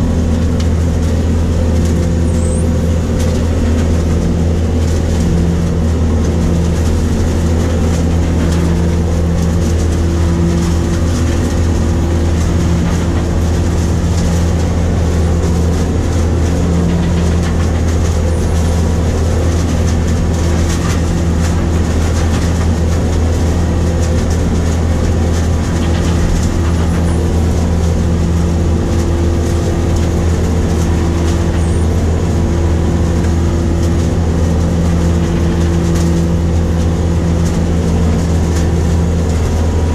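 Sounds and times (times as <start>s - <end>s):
harvester engine and machinery hum: 0.0s - 39.9s.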